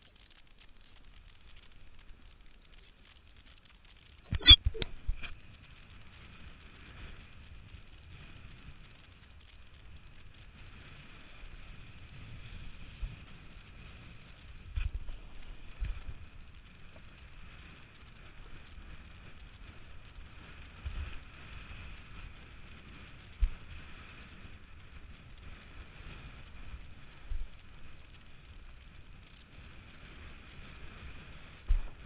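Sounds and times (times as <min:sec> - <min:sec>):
wind on microphone: 0:04.3 - 0:32.0.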